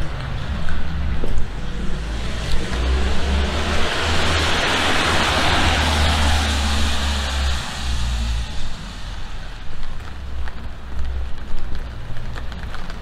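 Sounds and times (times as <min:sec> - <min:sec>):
low rumble: 0:00.0 - 0:11.6
tyres hissing on wet street: 0:00.0 - 0:13.0.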